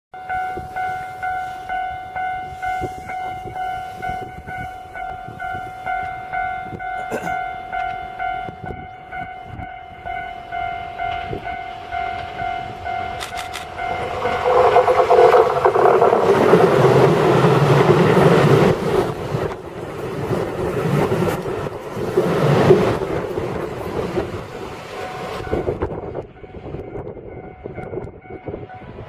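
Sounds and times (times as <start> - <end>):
crossing warning bell ringing: 0.1 - 29.0
train rushing past: 0.2 - 29.0.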